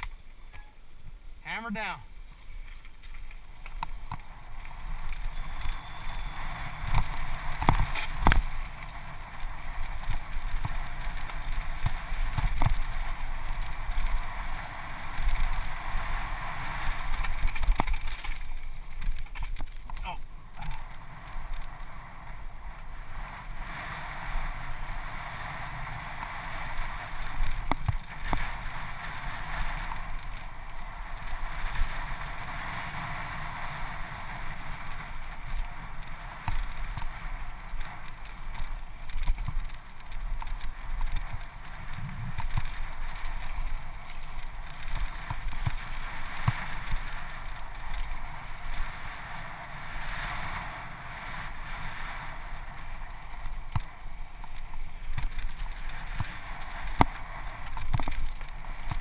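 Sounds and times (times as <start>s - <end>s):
wind and tyre noise: 0.0s - 59.0s
bike knocking and rattling: 2.4s - 50.6s, 51.5s - 59.0s.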